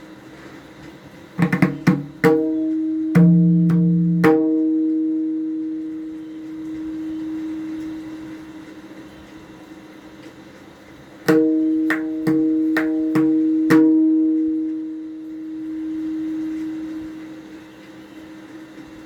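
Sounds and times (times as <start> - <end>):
hand drum strokes ringing: 1.4 - 9.5, 11.3 - 18.6.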